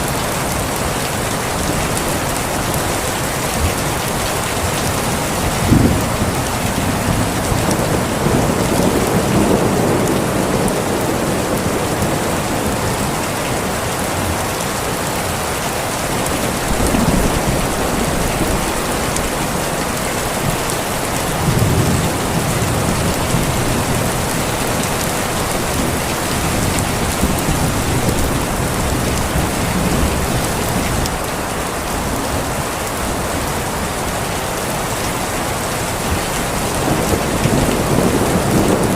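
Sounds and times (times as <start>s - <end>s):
heavy rain falling: 0.0s - 38.9s
thunder rumbling: 1.6s - 13.4s, 16.0s - 33.3s, 35.9s - 38.9s.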